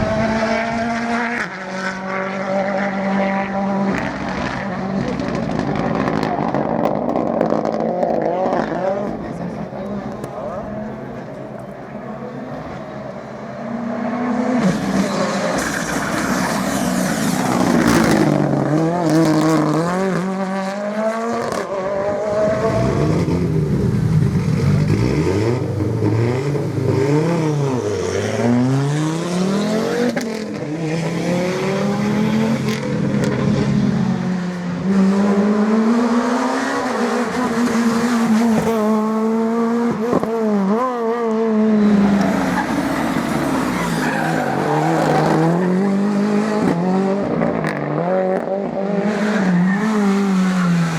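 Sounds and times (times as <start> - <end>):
rally car engines at full throttle: 0.0 - 50.9.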